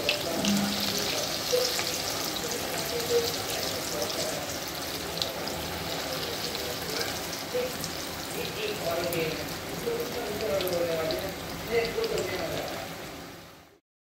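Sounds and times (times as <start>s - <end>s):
deep-frying sizzle and crackles: 0.0s - 13.8s.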